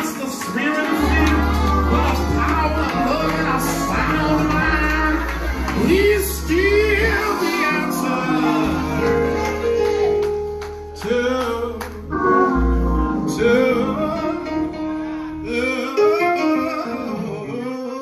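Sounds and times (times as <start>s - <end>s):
instrumental backing with low bass: 0.0s - 17.4s
person singing gospel: 0.0s - 18.0s.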